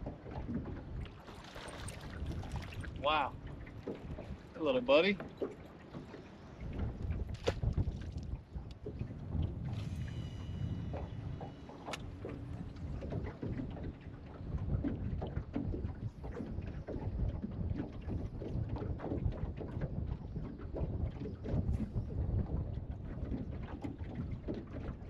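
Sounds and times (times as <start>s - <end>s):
water slapping metal boat hull: 0.0s - 25.0s
wind buffeting microphone: 0.0s - 25.0s.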